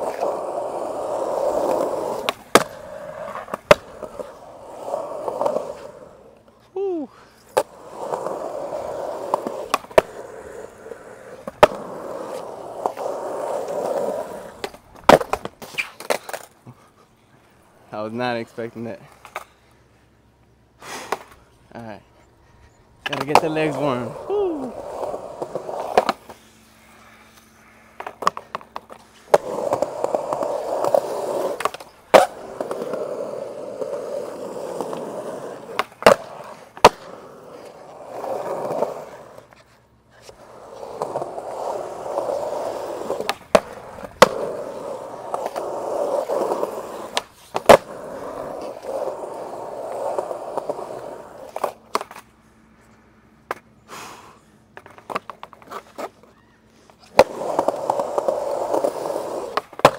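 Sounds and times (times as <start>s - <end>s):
skateboard cracking on concrete: 0.0s - 16.9s, 23.0s - 52.4s, 54.7s - 59.9s
skateboard wheels rolling on concrete: 0.0s - 59.9s.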